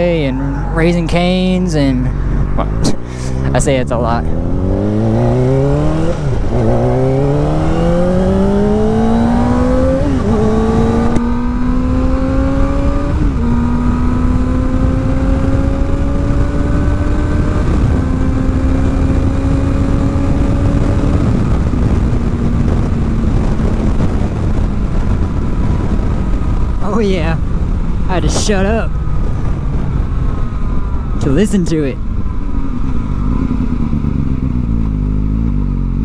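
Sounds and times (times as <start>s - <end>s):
wind noise: 0.0s - 35.6s
motorcycle engine accelerating: 0.0s - 36.0s.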